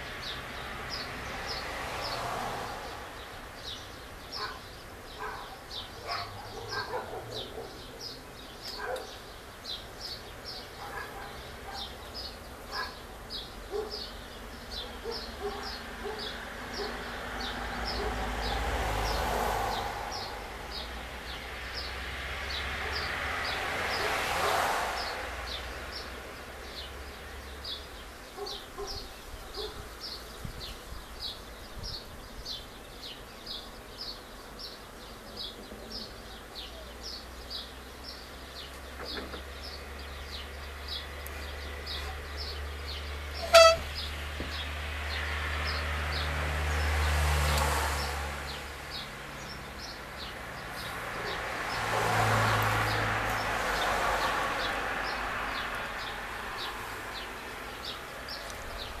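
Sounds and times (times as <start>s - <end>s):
birds singing: 0.0s - 59.0s
vehicles passing: 0.0s - 59.0s.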